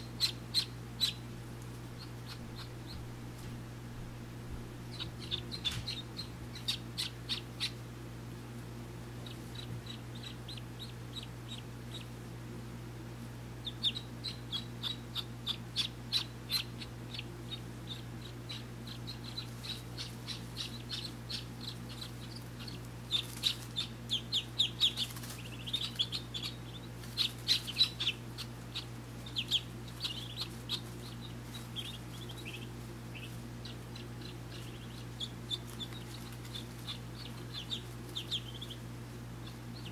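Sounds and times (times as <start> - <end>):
ducklings peeping: 0.0 - 39.9
steady low hum: 0.0 - 39.9.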